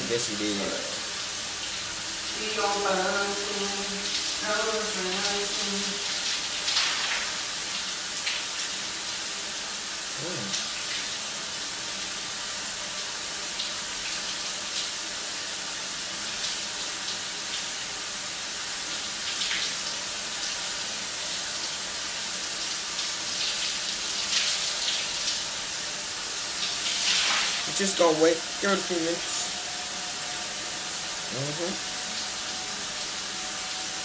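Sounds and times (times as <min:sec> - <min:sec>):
shower water spraying: 0:00.0 - 0:34.0.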